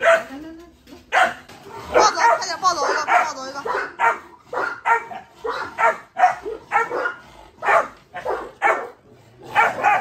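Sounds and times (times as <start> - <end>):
puppies barking: 0.0 - 0.4, 1.1 - 10.0.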